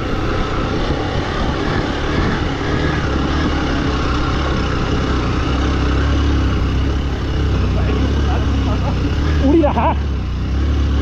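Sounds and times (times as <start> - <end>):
heavy low rumble: 0.0 - 11.0
vehicle engine running: 0.0 - 11.0
wind and road noise: 0.0 - 11.0.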